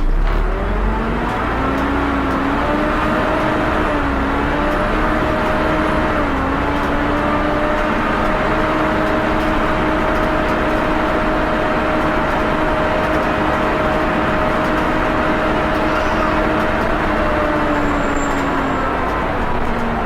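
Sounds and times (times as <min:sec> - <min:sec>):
diesel engine rumble: 0:00.0 - 0:20.0
cooling fan whining: 0:00.1 - 0:20.0.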